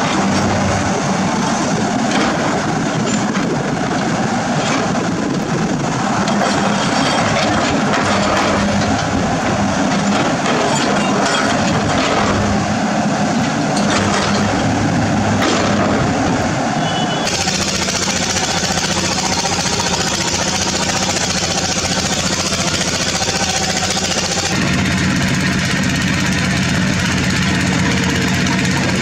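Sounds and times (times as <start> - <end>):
grinding crackling noise: 0.0 - 16.6, 17.2 - 29.0
heavy diesel machinery engine: 0.0 - 29.0.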